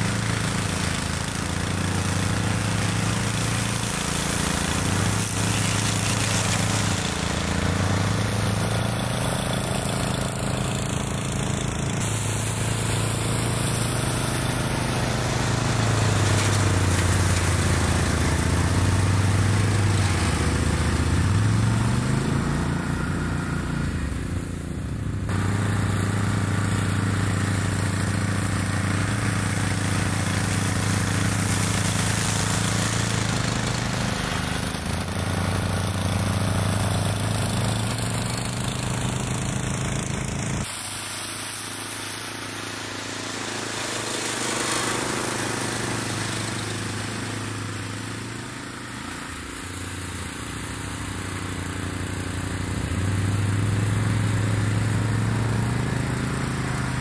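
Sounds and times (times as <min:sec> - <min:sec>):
atv engine running: 0:00.0 - 0:57.0
brush cutter mowing grass: 0:00.0 - 0:57.0.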